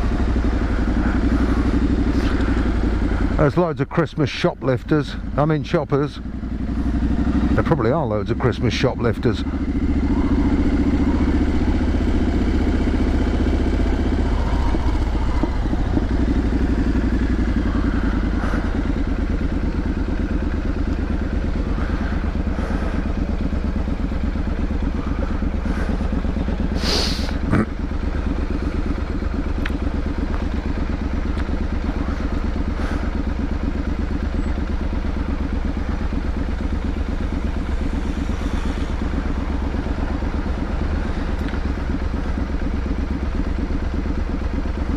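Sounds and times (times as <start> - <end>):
motorcycle engine running at low revs: 0.0 - 44.9.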